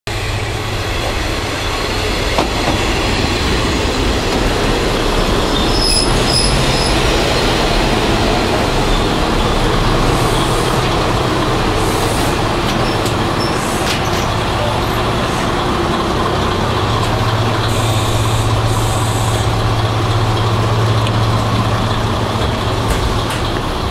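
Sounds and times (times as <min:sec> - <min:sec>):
diesel engine drone: 0:00.1 - 0:23.9
wheels rumbling on rail: 0:00.1 - 0:23.9.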